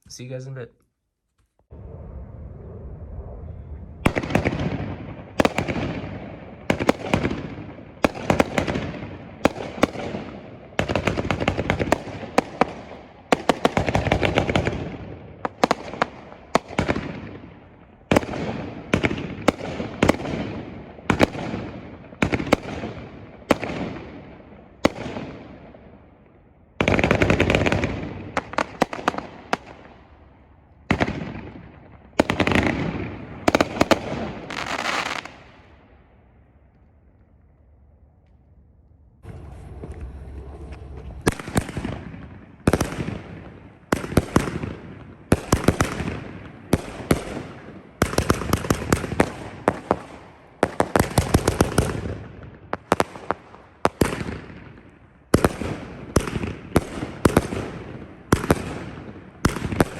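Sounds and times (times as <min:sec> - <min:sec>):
fireworks launching: 0:01.6 - 0:25.7, 0:30.9 - 0:35.8, 0:39.2 - 0:59.9.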